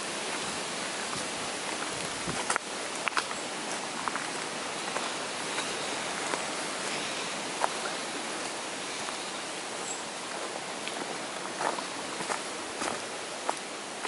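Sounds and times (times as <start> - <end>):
footsteps on leafy dirt path: 0.0 - 14.0
steady hiss: 0.0 - 14.0.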